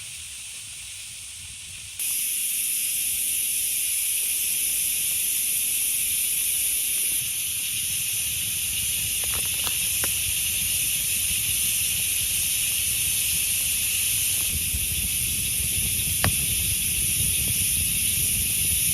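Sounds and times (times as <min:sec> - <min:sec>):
heavy rain hissing: 0:00.0 - 0:18.9.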